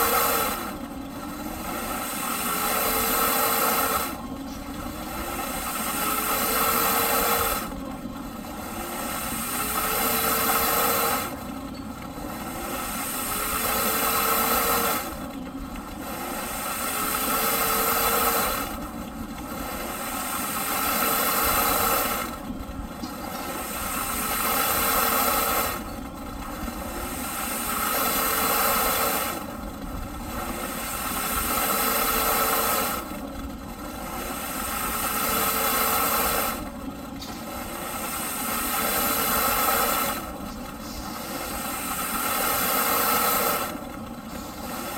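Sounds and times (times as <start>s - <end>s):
vacuum cleaner motor: 0.0s - 44.9s.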